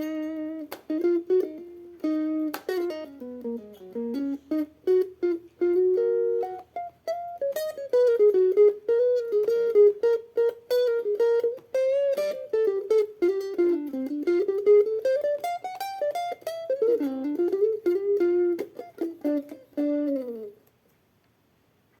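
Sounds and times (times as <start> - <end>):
plucked string instrument melody: 0.0 - 20.6.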